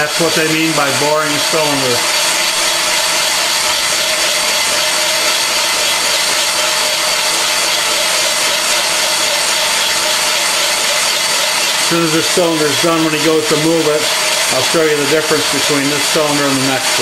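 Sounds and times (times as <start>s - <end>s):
boring machine drone with whine: 0.0s - 17.0s.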